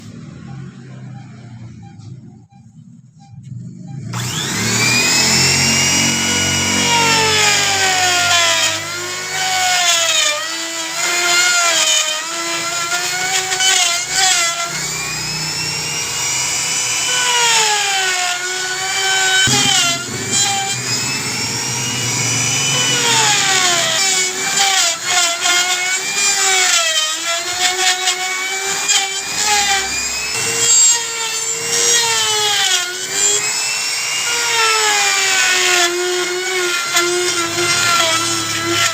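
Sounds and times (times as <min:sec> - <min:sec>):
electric drill boring into wood: 0:04.1 - 0:38.9.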